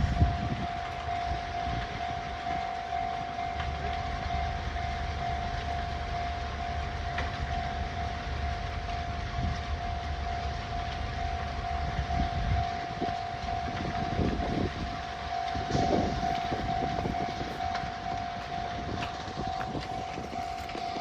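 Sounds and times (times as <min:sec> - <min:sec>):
train rumble: 0:00.0 - 0:21.0
train wheel clacks: 0:00.0 - 0:21.0
level crossing bell ringing: 0:00.6 - 0:08.7, 0:09.9 - 0:21.0.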